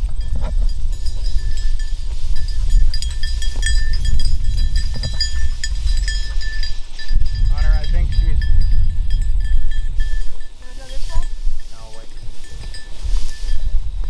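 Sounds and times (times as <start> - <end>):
small bell ringing: 0.0 - 13.8
wind rumbling on microphone: 0.0 - 14.0.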